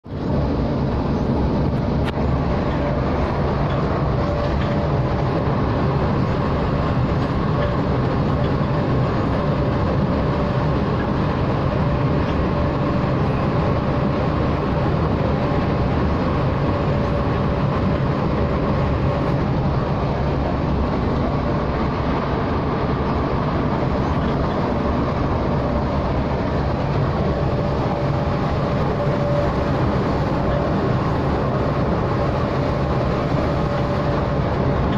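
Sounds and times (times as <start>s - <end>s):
engine and road noise drone: 0.0s - 34.9s.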